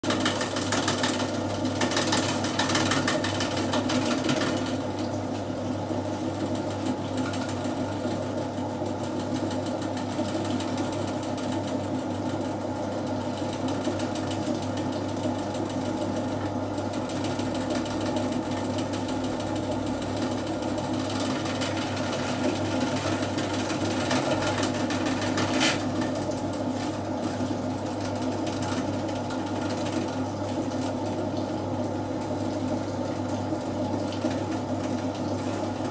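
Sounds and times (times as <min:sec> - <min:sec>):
drain cleaning machine running: 0:00.0 - 0:35.9.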